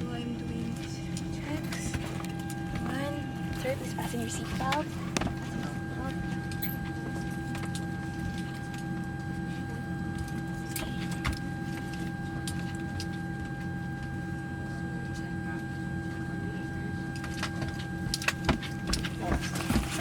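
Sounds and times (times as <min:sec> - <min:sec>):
aircraft cabin machinery hum: 0:00.0 - 0:20.0.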